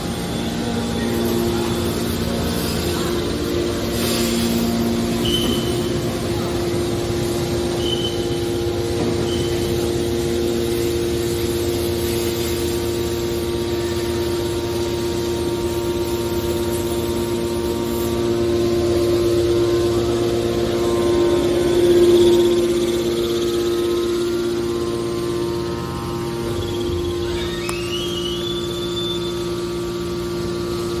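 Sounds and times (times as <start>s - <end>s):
hydraulic baler humming and whining: 0.0s - 31.0s.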